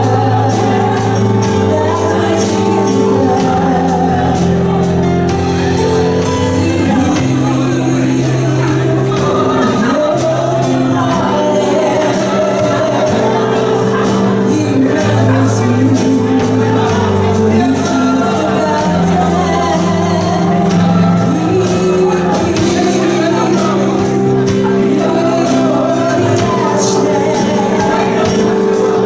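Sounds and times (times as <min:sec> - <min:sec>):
person singing: 0:00.0 - 0:29.0
sustained keyboard chords: 0:00.0 - 0:29.0.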